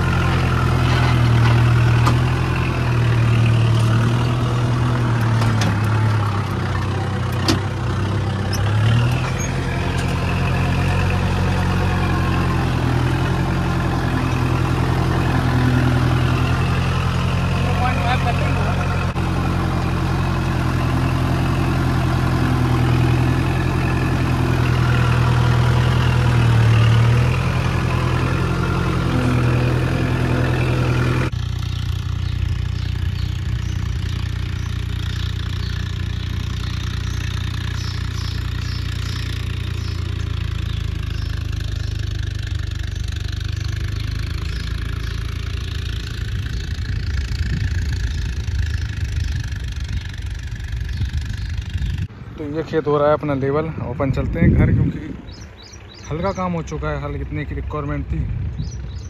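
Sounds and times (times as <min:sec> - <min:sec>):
distant tractor engine rumble: 0:00.0 - 0:59.0
tractor diesel engine running: 0:00.0 - 0:59.0.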